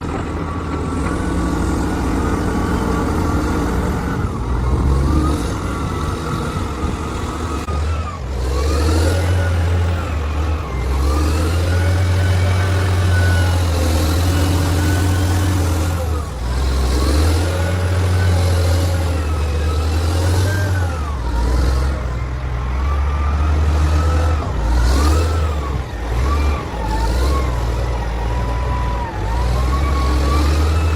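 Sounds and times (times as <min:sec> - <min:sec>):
construction machine engine revving: 0:00.0 - 0:30.9.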